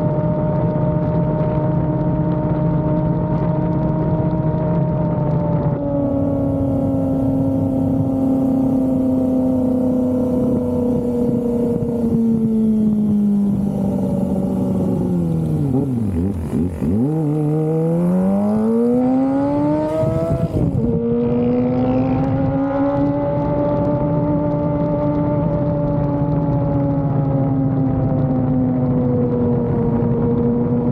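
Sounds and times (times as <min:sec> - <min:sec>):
motorcycle engine revving high: 0:00.0 - 0:30.9.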